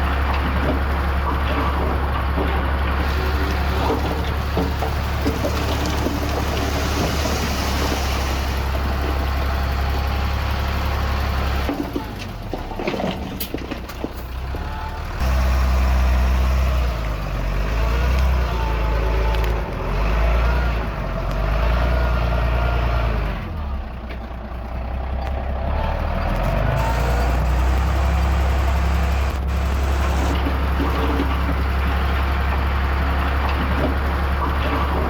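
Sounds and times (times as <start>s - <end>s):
diesel machinery working under load: 0.0s - 35.0s.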